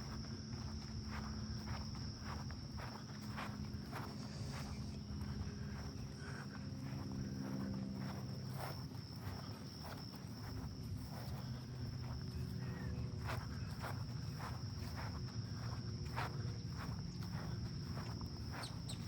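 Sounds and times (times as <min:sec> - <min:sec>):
footsteps of people walking: 0:00.0 - 0:19.0
insects droning: 0:00.0 - 0:19.0.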